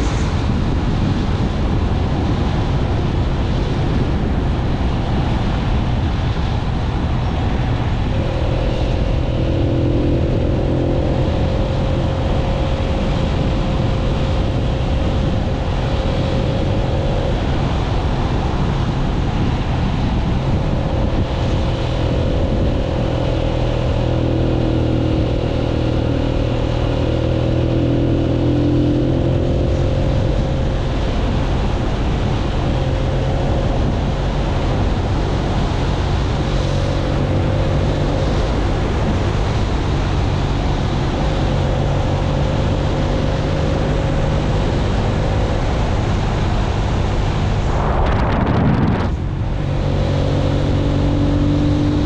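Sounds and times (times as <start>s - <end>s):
motorcycle engine running: 0.0s - 52.0s
wind noise on microphone: 0.0s - 52.0s.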